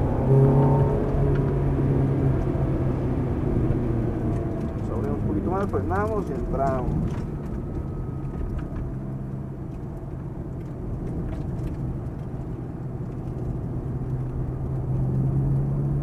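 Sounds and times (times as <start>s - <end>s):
car engine running: 0.0s - 16.0s
road rumble: 0.0s - 16.0s.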